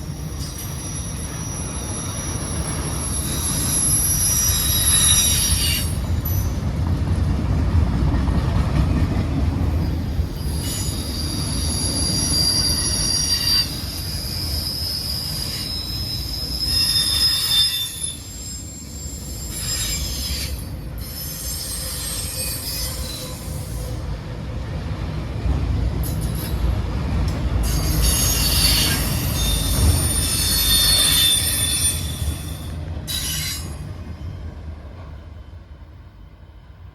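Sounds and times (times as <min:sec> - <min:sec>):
train wheels squealing: 0:00.0 - 0:06.8, 0:09.7 - 0:24.1, 0:26.0 - 0:26.8, 0:27.5 - 0:36.9
rumble of wheels on rail: 0:00.0 - 0:36.9.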